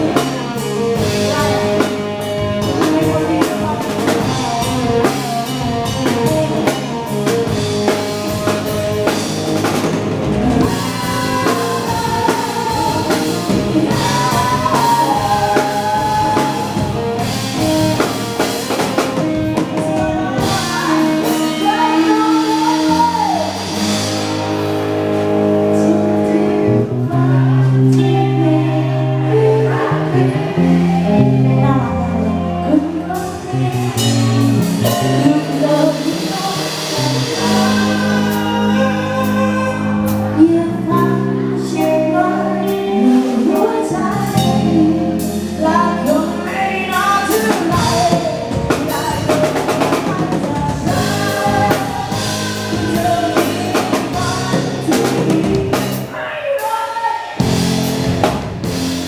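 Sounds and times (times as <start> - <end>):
person singing: 0.0 - 58.0
drum kit: 0.0 - 59.0
live band music: 0.0 - 59.0.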